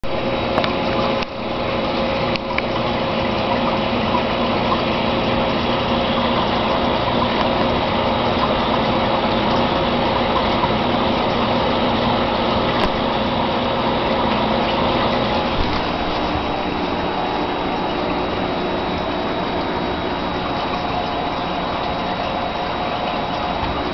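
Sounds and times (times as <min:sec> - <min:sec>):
aquarium pump humming: 0:00.0 - 0:23.9
water noise: 0:00.0 - 0:23.9.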